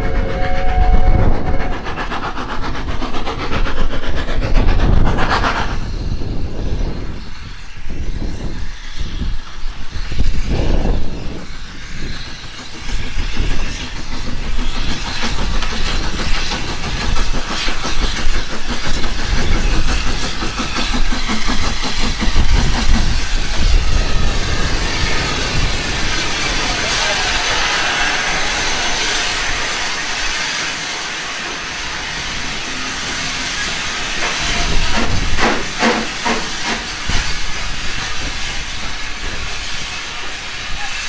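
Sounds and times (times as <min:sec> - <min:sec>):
steam locomotive arriving: 0:00.0 - 0:41.0.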